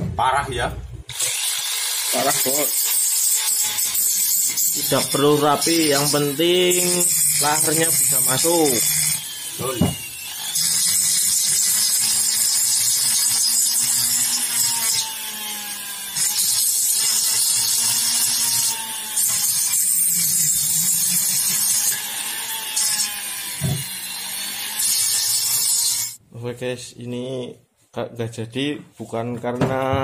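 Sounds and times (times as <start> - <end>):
rotary grinder cutting metal: 1.1 - 26.2.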